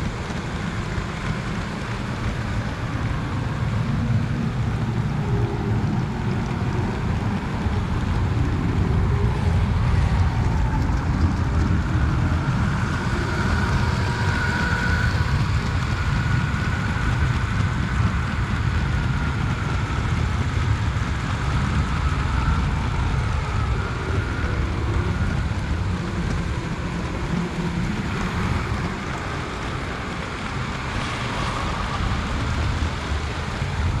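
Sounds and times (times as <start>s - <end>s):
faint motor whine: 0.0s - 34.0s.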